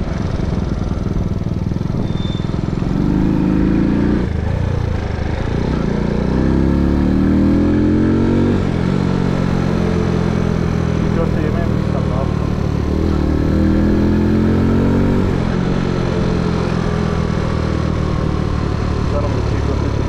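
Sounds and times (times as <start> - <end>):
moped engine accelerating: 0.0 - 20.0.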